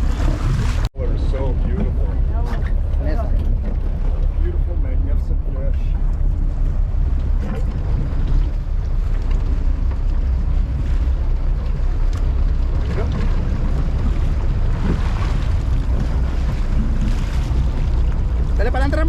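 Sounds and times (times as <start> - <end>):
boat engine rumble: 0.0 - 19.0
wind buffeting microphone: 0.0 - 19.0.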